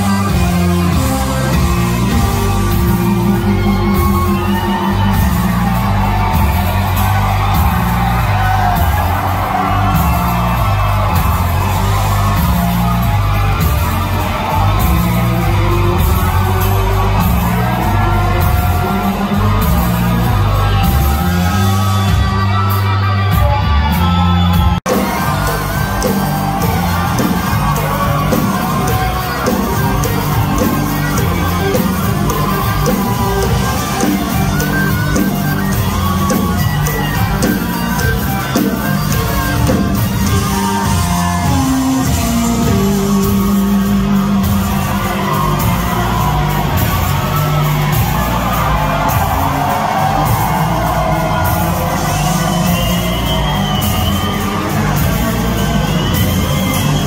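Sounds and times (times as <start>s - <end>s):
pounding drums: 0.0s - 22.4s, 24.6s - 57.0s
bass line: 0.0s - 57.0s
crowd shouts and whoops: 0.0s - 57.0s
electric guitars: 0.0s - 57.0s
live rock band playing: 0.0s - 57.0s.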